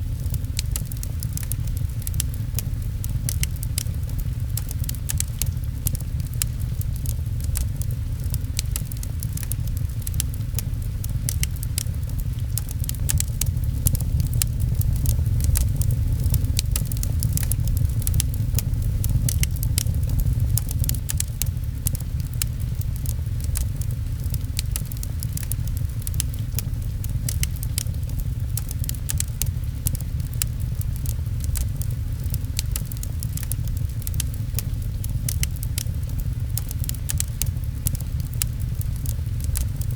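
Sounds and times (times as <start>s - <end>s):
fireplace crackling and popping: 0.0s - 39.9s
rain pattering on a window: 0.0s - 39.9s
steady low rumble: 0.0s - 39.9s.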